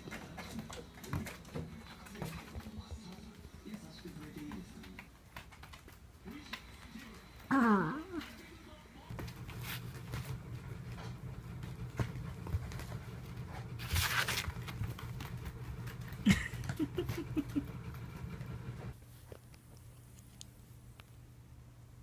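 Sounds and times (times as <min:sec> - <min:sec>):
paws pattering: 0:00.0 - 0:07.5, 0:09.1 - 0:20.6.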